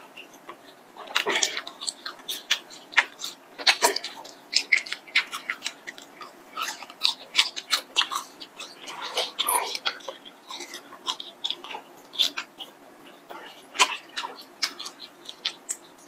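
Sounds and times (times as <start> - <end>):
wet smacking and chewing: 0.0 - 16.0.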